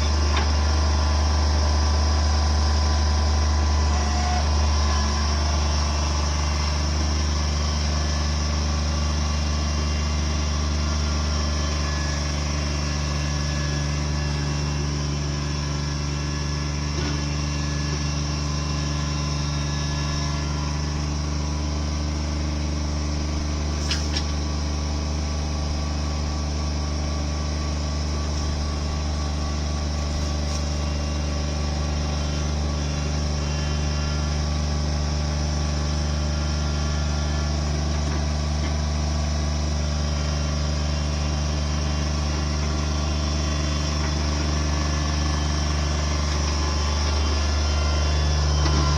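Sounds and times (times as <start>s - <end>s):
machinery engine running: 0.0s - 48.9s.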